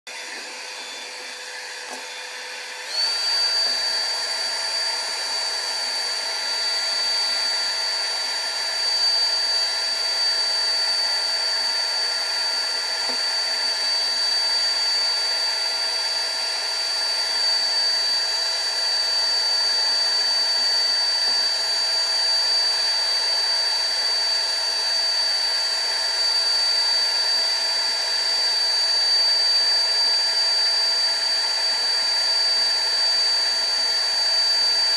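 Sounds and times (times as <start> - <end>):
hot-air blower whine: 0.1 - 34.9.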